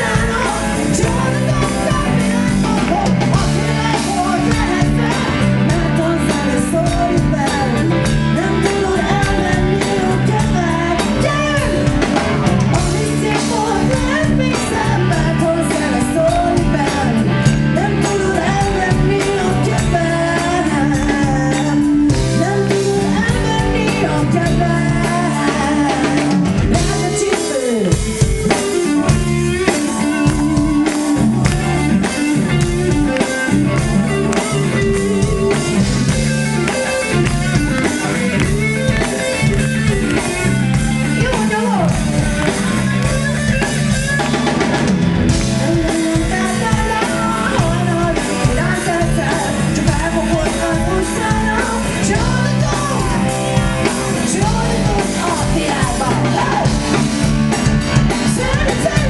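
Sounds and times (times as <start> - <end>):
bass guitar: 0.0 - 59.0
drum kit: 0.0 - 59.0
electric guitars: 0.0 - 59.0
woman singing: 0.0 - 59.0.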